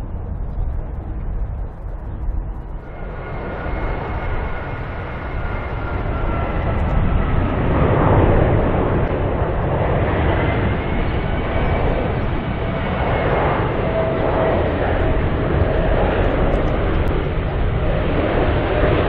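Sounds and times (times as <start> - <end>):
high engine whine: 0.0 - 19.0
jet engines low rumble: 0.0 - 19.0.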